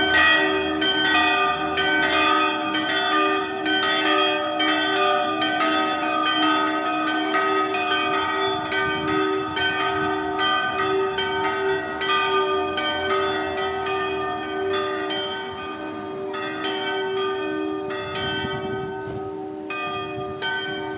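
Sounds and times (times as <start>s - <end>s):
church bells ringing: 0.0s - 20.9s.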